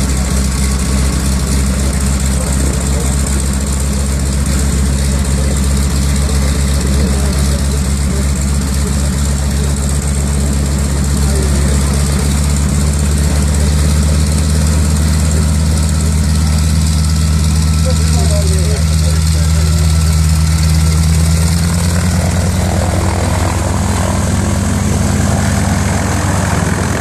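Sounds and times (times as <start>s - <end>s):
radial aircraft engine idling: 0.0s - 27.0s.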